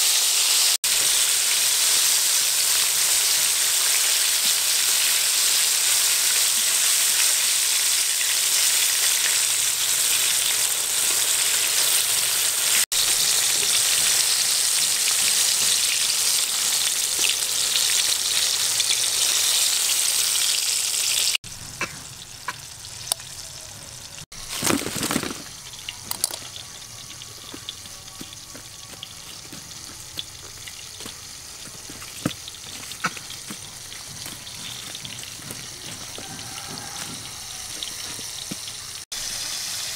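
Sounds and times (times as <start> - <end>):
oil sizzling loudly: 0.0 - 39.9.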